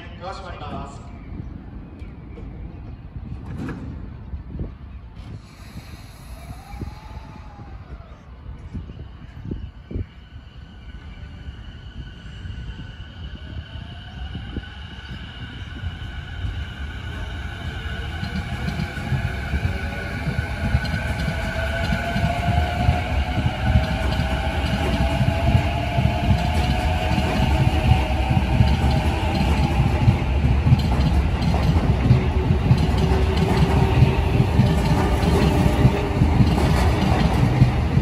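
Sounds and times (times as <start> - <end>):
train wheels rumbling: 0.0 - 38.0.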